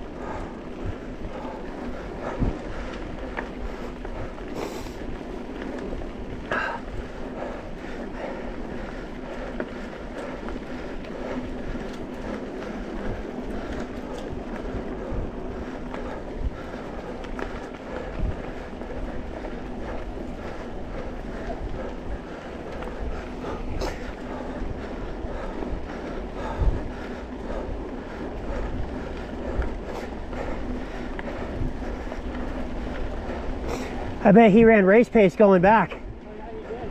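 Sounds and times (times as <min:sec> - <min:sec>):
bike clicks and rattles: 0:00.0 - 0:36.9
tyre and wind noise: 0:00.0 - 0:36.9.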